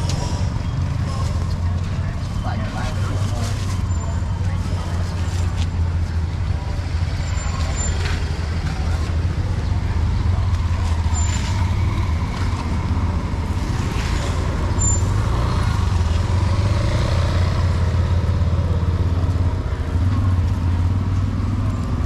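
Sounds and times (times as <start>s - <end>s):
street traffic: 0.0s - 22.0s
vehicle engine rumbling: 0.0s - 22.0s.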